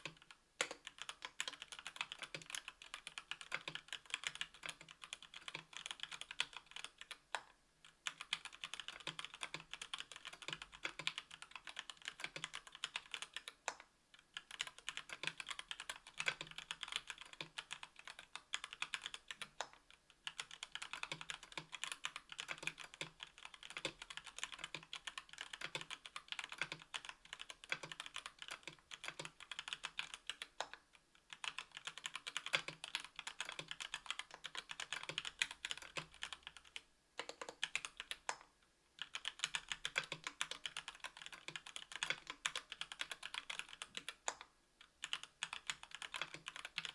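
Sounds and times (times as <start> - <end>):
fast mechanical keyboard typing: 0.0 - 7.3, 8.0 - 13.8, 14.4 - 38.4, 39.0 - 46.9.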